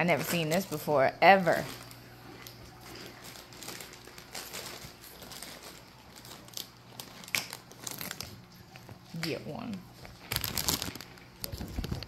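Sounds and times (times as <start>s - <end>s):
chip bag crinkling: 0.0s - 12.0s.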